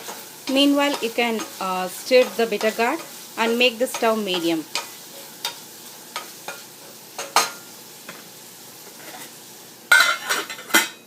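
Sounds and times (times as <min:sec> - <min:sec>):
utensil scraping frying pan: 0:00.0 - 0:08.2, 0:08.8 - 0:11.0
faint frying sizzle: 0:00.0 - 0:11.0.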